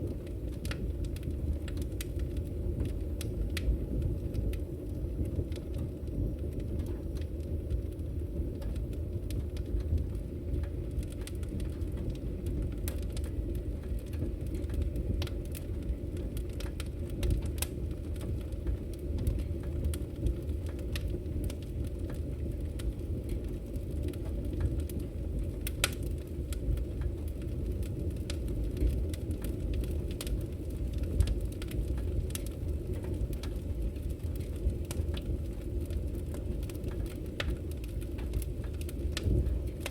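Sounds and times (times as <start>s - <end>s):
firewood crackling and popping: 0.0s - 39.9s
low rumble of fire: 0.0s - 39.9s.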